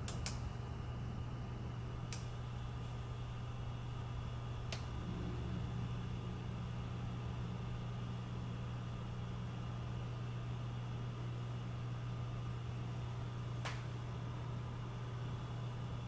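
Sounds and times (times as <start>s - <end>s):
cooling fans whirring: 0.0s - 16.0s
low hum: 0.5s - 16.0s.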